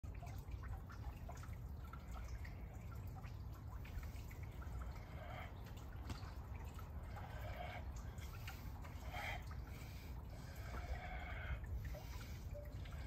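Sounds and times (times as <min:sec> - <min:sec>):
water dripping from fountain: 0:00.0 - 0:13.0.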